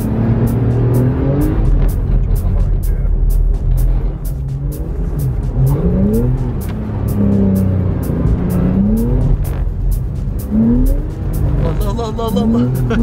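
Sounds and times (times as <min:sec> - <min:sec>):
background music with steady beat: 0:00.0 - 0:13.0
car engine revving: 0:00.0 - 0:13.0.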